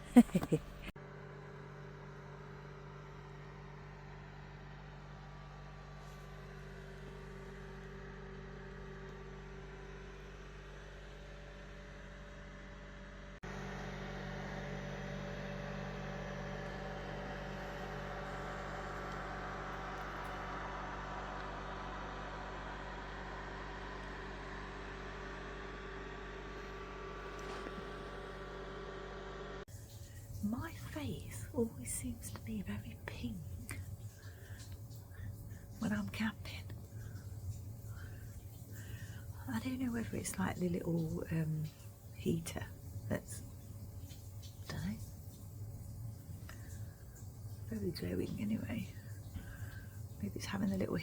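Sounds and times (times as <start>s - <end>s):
machine hum with hiss: 0.0s - 51.0s.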